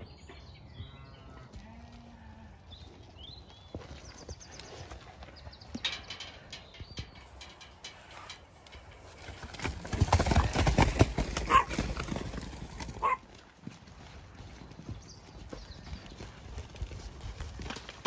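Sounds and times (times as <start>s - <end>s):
horse hooves thudding on turf: 2.7s - 18.0s.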